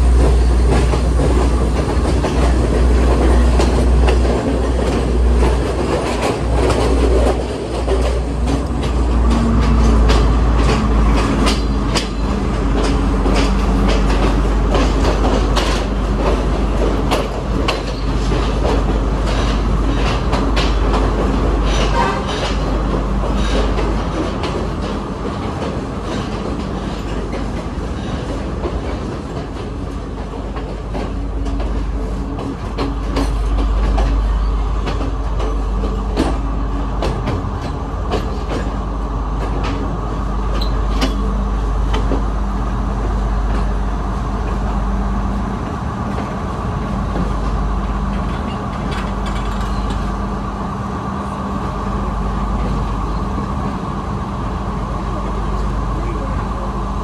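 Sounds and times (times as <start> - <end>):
wheels clacking over rail joints: 0.0 - 44.8, 46.1 - 50.4
train rumbling from inside carriage: 0.0 - 57.0.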